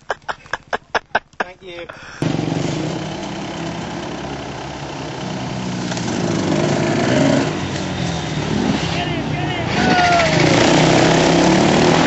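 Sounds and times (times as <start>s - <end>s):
off-road motorcycle engines: 0.0s - 12.0s.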